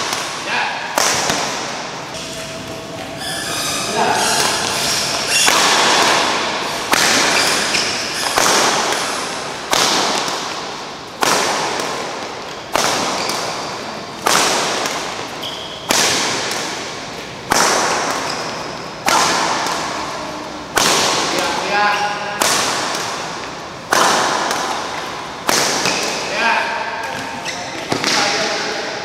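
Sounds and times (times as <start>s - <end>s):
racket striking shuttlecock: 0.0s - 28.9s.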